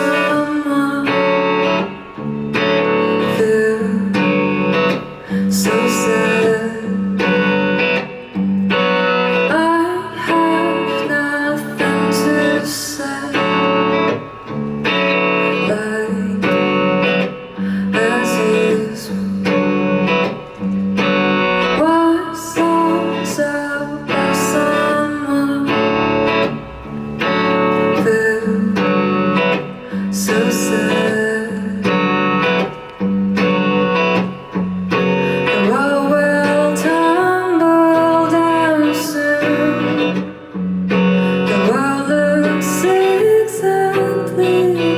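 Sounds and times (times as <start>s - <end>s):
guitar chords strummed: 0.0s - 44.9s.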